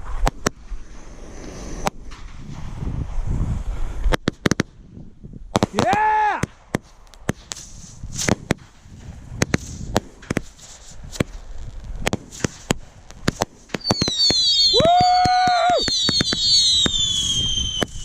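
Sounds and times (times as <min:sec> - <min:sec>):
whistling fireworks: 0:00.0 - 0:04.6, 0:05.6 - 0:18.0
fireworks bangs and crackles: 0:00.0 - 0:18.0.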